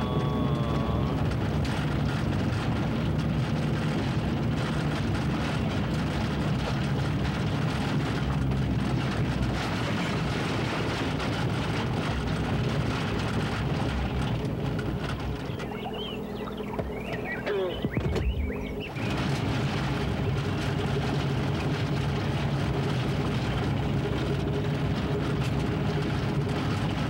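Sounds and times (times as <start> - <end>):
car engine running: 0.0 - 27.0
tyre noise on rough road: 0.0 - 27.0.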